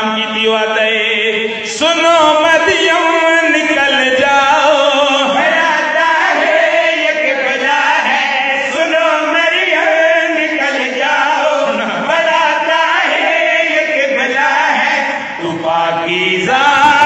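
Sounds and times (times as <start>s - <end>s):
men chanting over a microphone: 0.0s - 17.0s.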